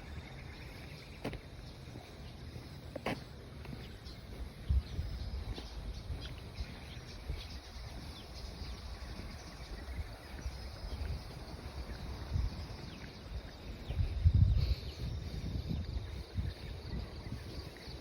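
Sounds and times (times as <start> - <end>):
small birds chirping: 0.0 - 18.0
wind rumbling on microphone: 3.4 - 18.0.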